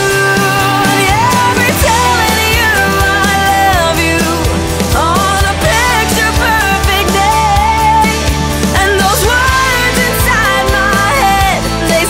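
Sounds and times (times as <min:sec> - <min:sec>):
pop-rock music: 0:00.0 - 0:12.0.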